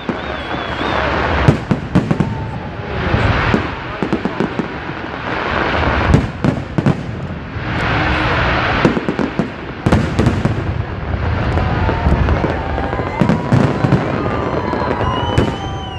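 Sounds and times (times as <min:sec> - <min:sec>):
fireworks bangs: 0:00.0 - 0:15.9
fireworks crackling: 0:00.0 - 0:15.9.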